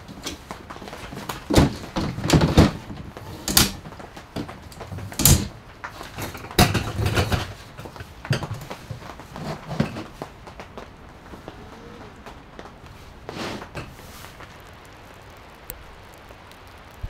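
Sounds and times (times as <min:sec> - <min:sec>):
rustling: 0:00.0 - 0:17.0.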